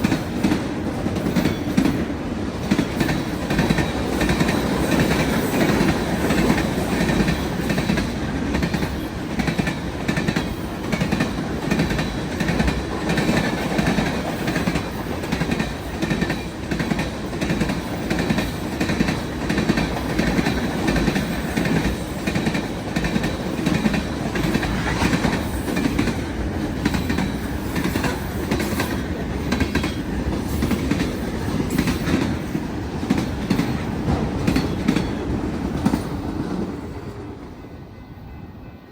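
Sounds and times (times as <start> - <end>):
train wheels clicking over rail joints: 0.0 - 36.8
freight train rumble: 0.0 - 38.9.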